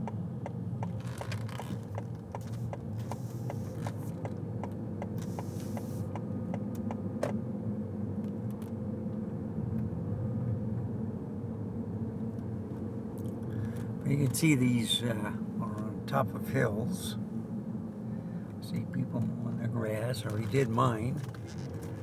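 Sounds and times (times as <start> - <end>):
low rumble of engine and tyres: 0.0 - 22.0.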